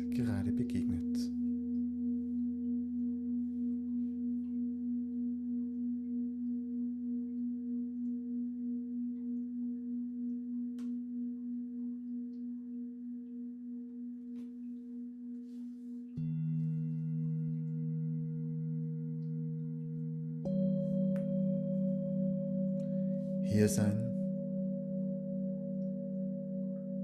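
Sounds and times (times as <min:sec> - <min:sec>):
singing bowl ringing: 0:01.3 - 0:27.0.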